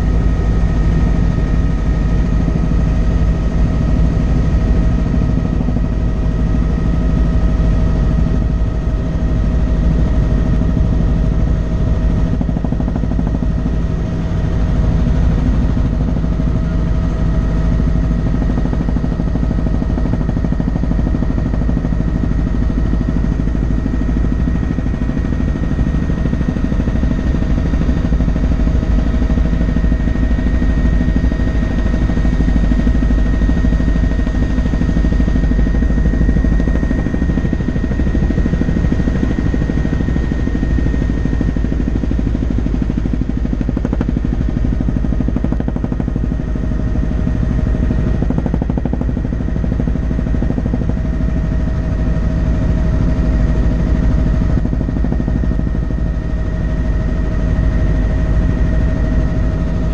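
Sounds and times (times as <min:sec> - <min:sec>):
helicopter rotor and engine rumble: 0:00.0 - 0:59.9
helicopter whine: 0:00.0 - 0:59.9.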